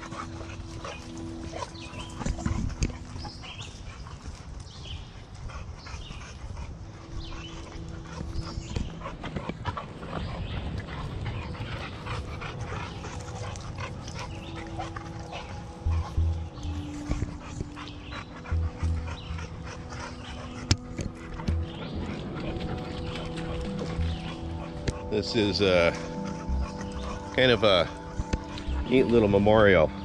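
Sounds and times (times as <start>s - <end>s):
footsteps on dirt trail: 0.0s - 29.3s
dog panting: 0.0s - 30.0s.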